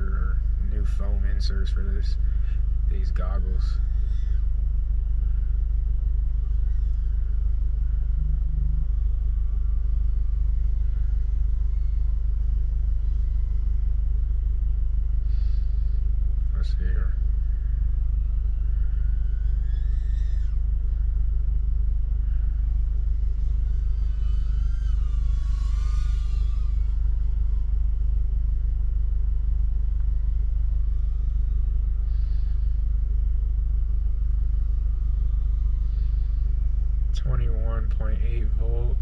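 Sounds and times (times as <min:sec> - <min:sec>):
drone motor whine: 0:00.0 - 0:39.0.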